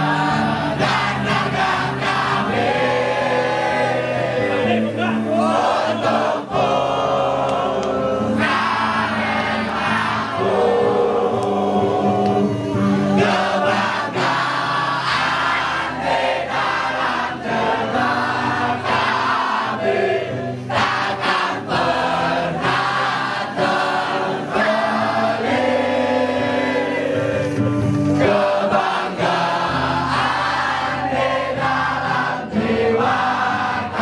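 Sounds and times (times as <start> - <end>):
group of voices singing: 0.0 - 34.0.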